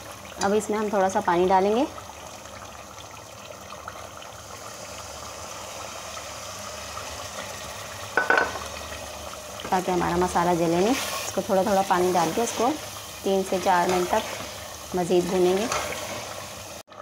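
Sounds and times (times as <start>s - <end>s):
masala sizzling in a pot: 0.0s - 17.0s.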